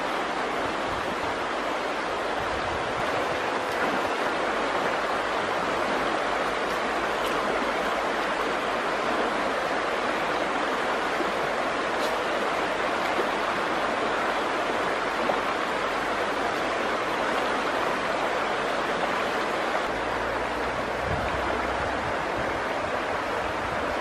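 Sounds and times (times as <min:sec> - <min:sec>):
river running over rocks: 0:00.0 - 0:24.0.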